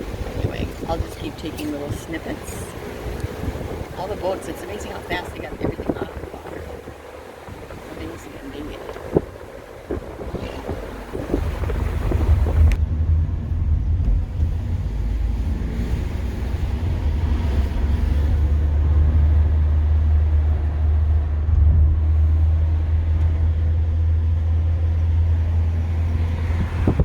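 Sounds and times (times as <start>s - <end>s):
car interior rumble: 0.0s - 27.0s.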